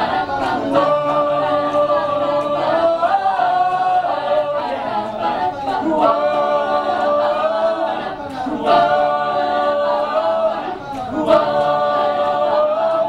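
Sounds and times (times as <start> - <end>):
a cappella group singing: 0.0 - 13.0.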